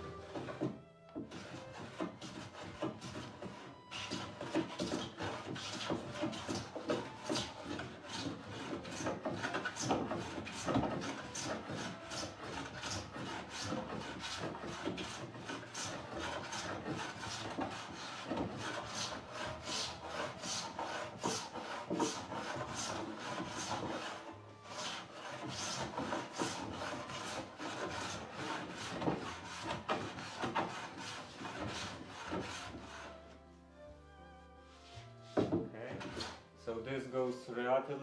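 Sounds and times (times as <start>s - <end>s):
hand plane shaving wood: 0.0s - 33.4s, 34.7s - 36.8s.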